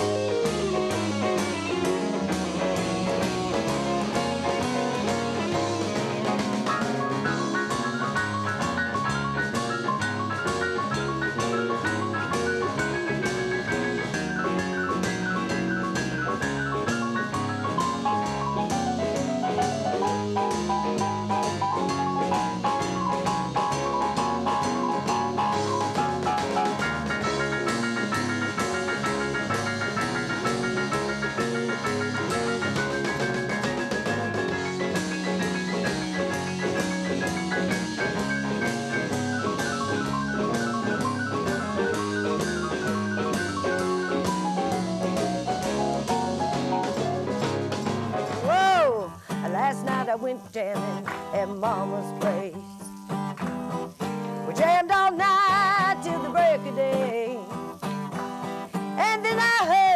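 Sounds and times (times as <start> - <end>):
melodic lead line: 0.0 - 48.9
drum kit steady beat: 0.0 - 50.1.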